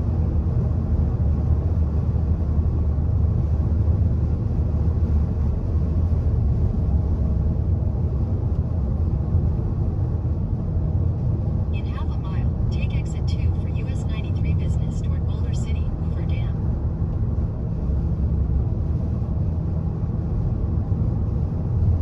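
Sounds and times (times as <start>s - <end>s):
car interior road noise: 0.0s - 22.0s.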